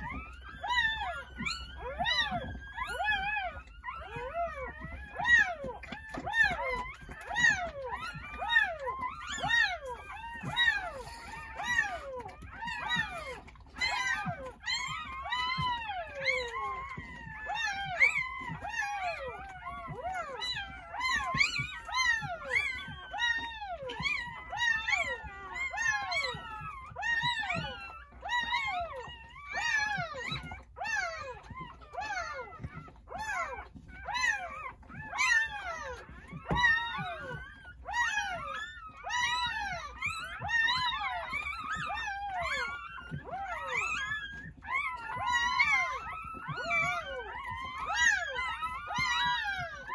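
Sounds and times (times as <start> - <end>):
puppies crying: 0.0 - 49.9.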